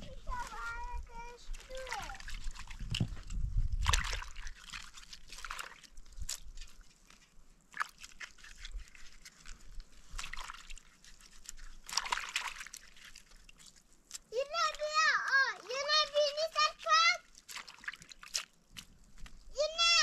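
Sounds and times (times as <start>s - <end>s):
small water splashes and sloshing: 0.0s - 20.0s.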